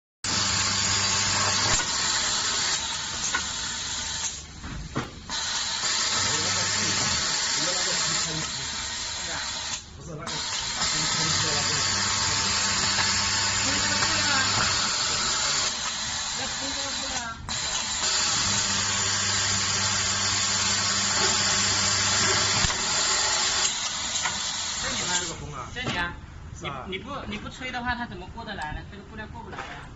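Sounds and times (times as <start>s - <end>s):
sewing machine humming: 0.2s - 4.4s, 5.3s - 25.4s.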